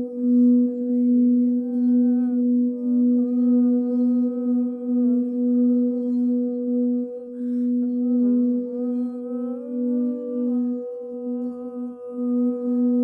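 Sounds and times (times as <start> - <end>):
singing bowl tone: 0.0 - 13.0.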